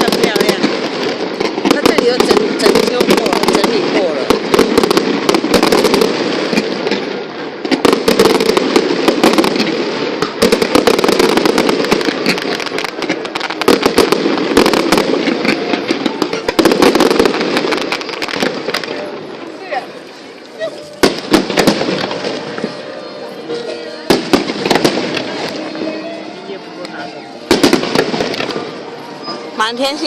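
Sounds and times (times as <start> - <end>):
fireworks crackling and popping: 0.0 - 30.0.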